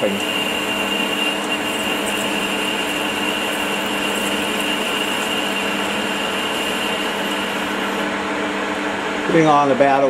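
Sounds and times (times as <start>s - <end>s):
boring bar cutting metal: 0.0s - 8.1s
metal lathe humming: 0.0s - 9.4s
high whine: 0.0s - 9.7s.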